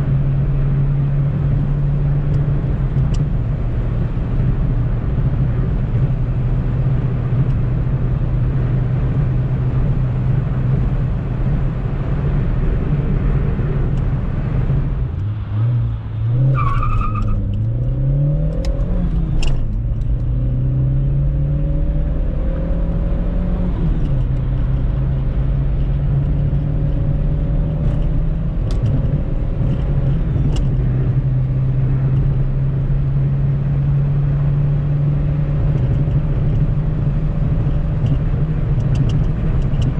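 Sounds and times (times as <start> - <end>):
car engine accelerating through gears: 0.0 - 39.9
road noise: 0.0 - 39.9.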